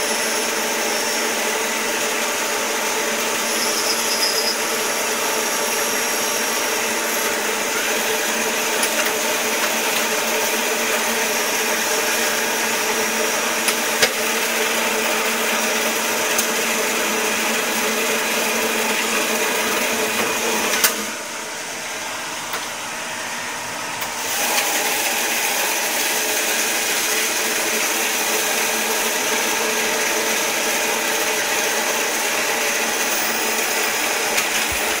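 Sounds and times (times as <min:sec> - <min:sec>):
cutting oil flowing: 0:00.0 - 0:35.0
lathe mechanical whir: 0:00.0 - 0:35.0.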